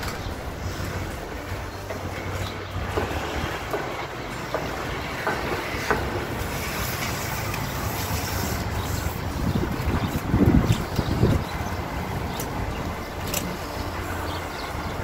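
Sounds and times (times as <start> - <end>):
bicycle clicks and rattles: 0.0 - 15.0
bicycle rolling on paving: 0.0 - 15.0.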